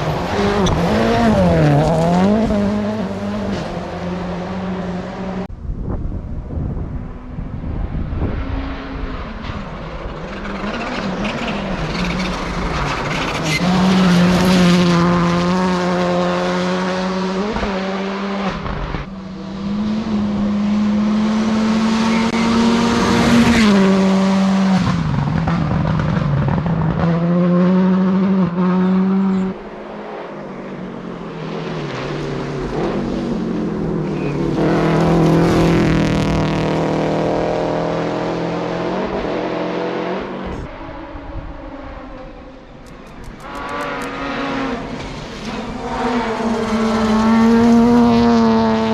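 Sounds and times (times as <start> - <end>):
rally cars passing at high revs: 0.0 - 5.5, 6.7 - 48.9.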